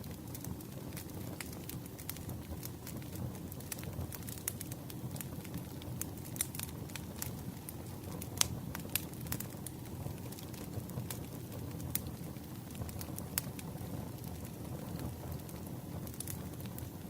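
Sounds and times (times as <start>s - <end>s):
campfire crackling: 0.0s - 17.0s
low rumble of fire: 0.0s - 17.0s
sharp fire pops: 0.2s - 17.0s.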